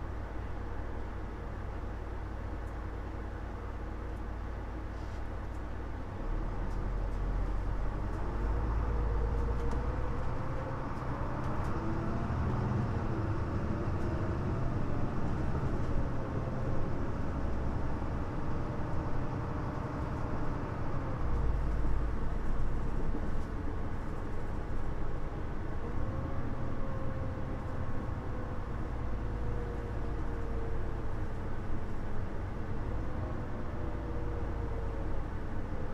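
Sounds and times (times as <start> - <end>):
bus diesel engine running: 0.0 - 35.9
faint engine whines: 0.0 - 35.9
road noise: 0.0 - 35.9.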